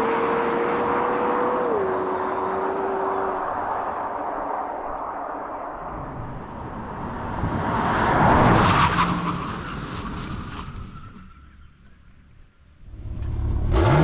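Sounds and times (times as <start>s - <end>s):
car driving past: 0.0s - 11.3s.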